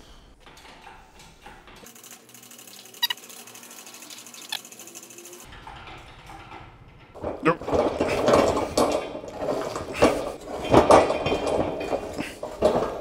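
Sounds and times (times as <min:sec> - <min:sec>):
crane mechanical ticking and creaking: 0:00.3 - 0:10.8.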